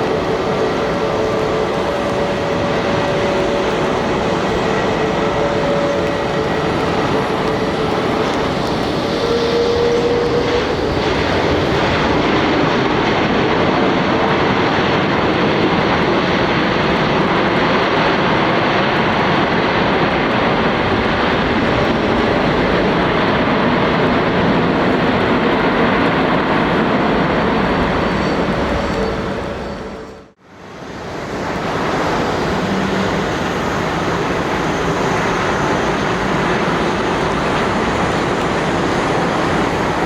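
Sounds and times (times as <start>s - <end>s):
brief engine whine: 0.0s - 15.0s, 20.7s - 40.0s
jet airliner engines rushing: 0.0s - 40.0s.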